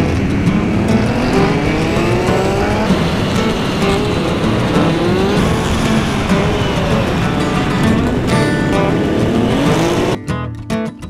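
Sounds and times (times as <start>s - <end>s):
motorcycle engines accelerating: 0.0s - 10.2s
road and wind noise: 0.0s - 10.2s.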